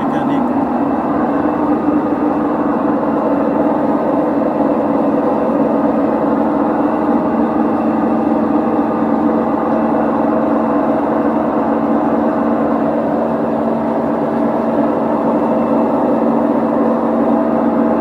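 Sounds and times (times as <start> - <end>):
washing machine spinning: 0.0 - 18.0.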